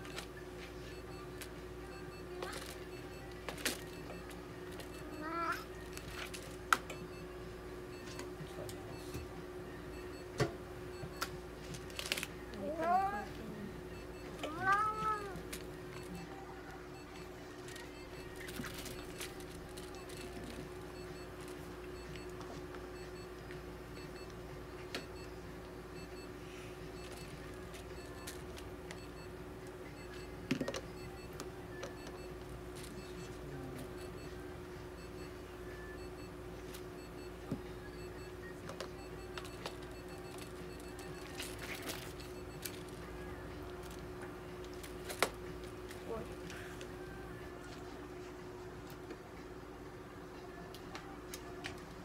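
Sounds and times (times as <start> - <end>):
machine electrical hum: 0.0 - 52.0.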